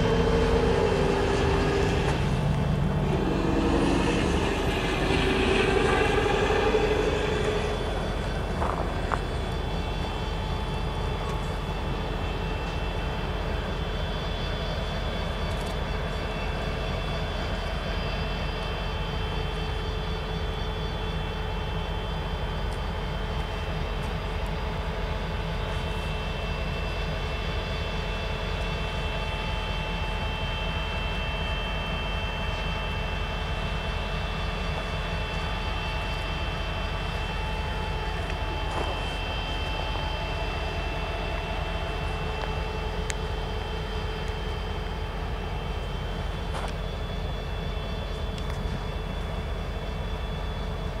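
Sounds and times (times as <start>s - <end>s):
constant whine: 0.0s - 51.0s
diesel locomotive engine idling: 0.0s - 51.0s.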